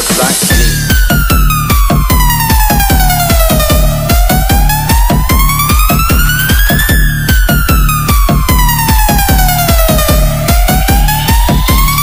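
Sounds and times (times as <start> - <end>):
electronic dance music: 0.0 - 12.0
heavy kick drum beat: 0.0 - 12.0.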